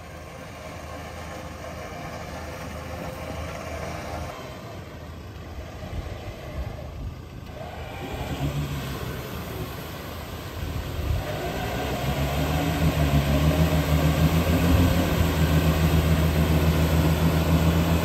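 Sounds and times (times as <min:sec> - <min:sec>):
diesel engines running: 0:00.0 - 0:18.0.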